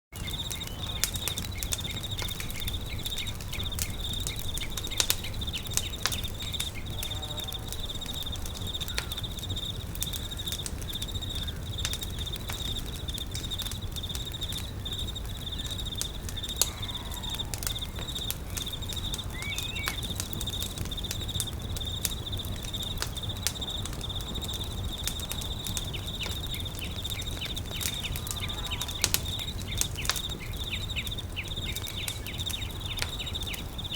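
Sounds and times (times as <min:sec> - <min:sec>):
campfire crackling and popping: 0:00.1 - 0:33.9
bird chirps: 0:00.2 - 0:22.6, 0:25.4 - 0:33.9
insect trill: 0:00.2 - 0:33.9.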